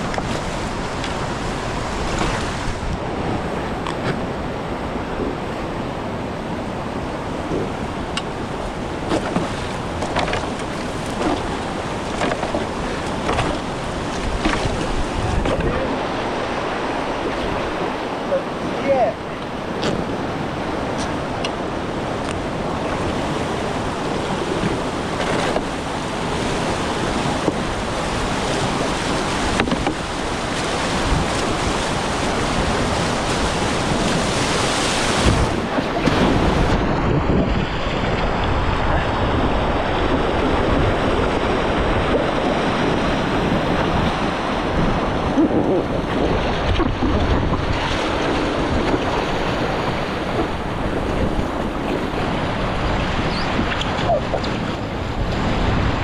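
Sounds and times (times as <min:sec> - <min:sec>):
river water rushing: 0:00.0 - 0:56.0
wind buffeting microphone: 0:00.0 - 0:56.0.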